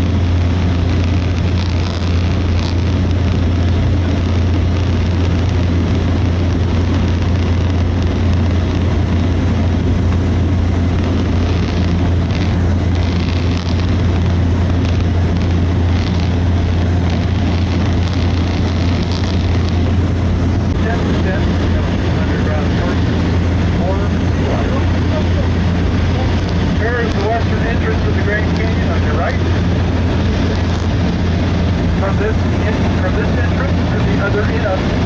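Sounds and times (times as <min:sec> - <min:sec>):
turboprop engine drone: 0:00.0 - 0:35.0
wind rushing noise: 0:00.0 - 0:35.0.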